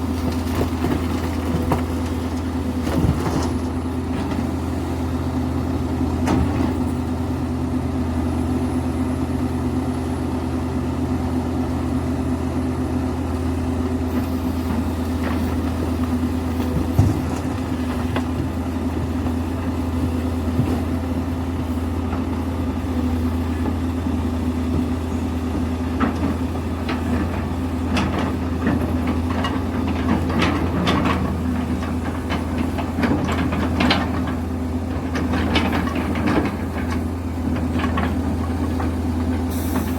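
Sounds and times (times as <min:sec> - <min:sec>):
diesel excavator engine running: 0:00.0 - 0:39.9.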